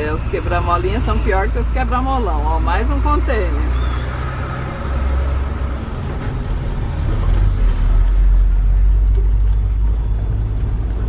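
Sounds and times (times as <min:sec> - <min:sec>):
motorhome engine and tyre rumble: 0:00.0 - 0:11.0.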